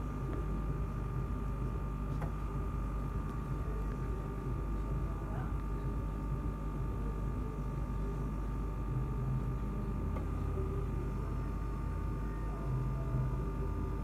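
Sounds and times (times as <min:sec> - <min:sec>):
air pump humming: 0:00.0 - 0:14.0.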